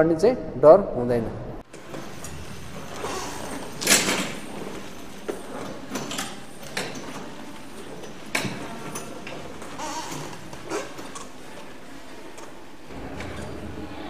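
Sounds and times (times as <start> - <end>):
wheelchair rolling on hard floor: 1.6 - 14.0.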